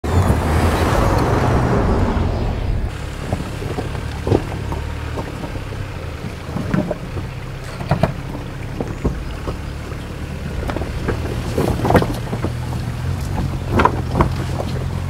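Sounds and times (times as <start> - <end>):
tyres on loose dirt: 0.0 - 15.0
vehicle engine hum: 0.0 - 15.0
tyres crunching on stone: 2.9 - 15.0.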